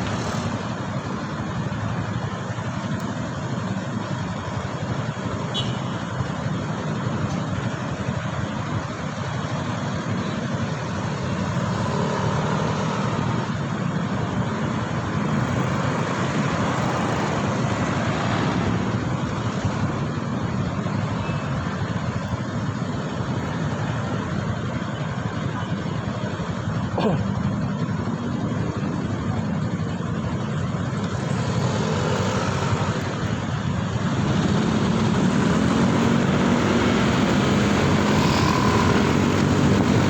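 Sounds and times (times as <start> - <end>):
road and traffic noise: 0.0 - 40.0.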